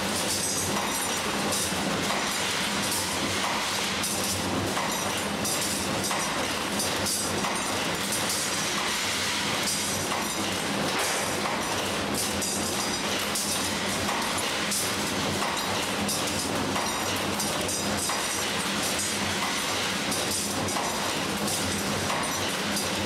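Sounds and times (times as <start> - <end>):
industrial machinery running: 0.0 - 23.0.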